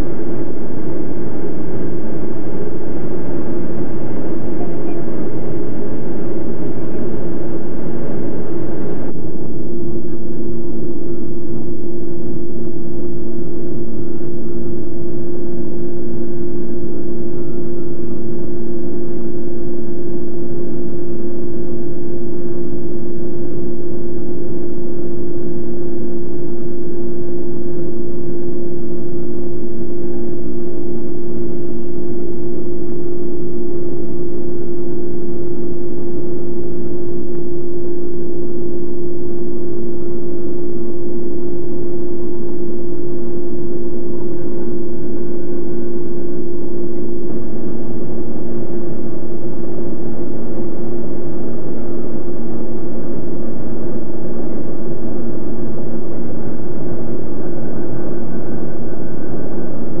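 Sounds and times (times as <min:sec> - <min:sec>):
jet airliner cabin drone: 0:00.0 - 1:00.0.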